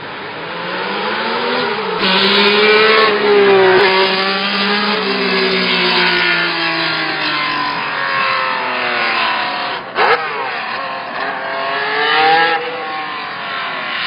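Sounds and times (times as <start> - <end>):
racing car engine revving: 0.0 - 14.0.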